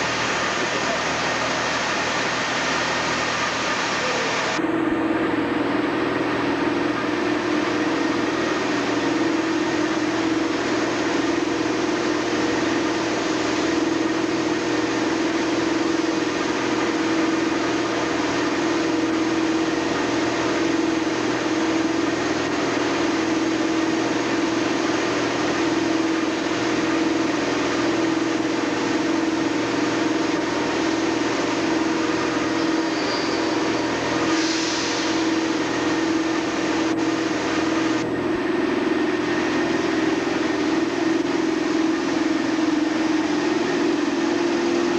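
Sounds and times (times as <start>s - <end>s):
train engine droning: 0.0s - 44.9s.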